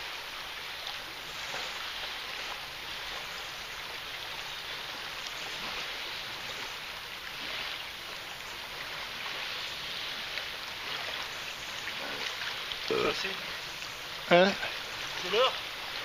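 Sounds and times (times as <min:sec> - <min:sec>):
river water rushing over riffle: 0:00.0 - 0:16.0.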